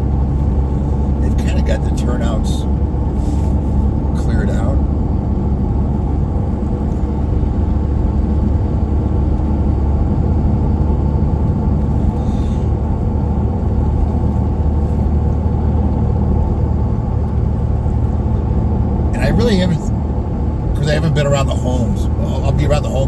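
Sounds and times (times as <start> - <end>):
tyres on road: 0.0 - 23.0
vehicle engine rumble: 0.0 - 23.0.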